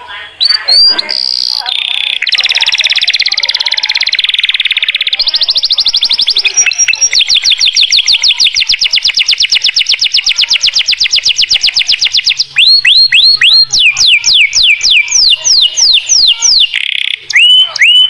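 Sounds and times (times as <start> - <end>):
canary singing in trills: 0.0 - 18.0.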